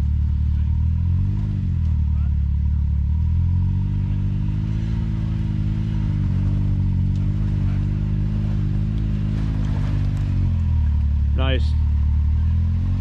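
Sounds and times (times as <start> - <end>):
utility vehicle engine idling: 0.0 - 13.0.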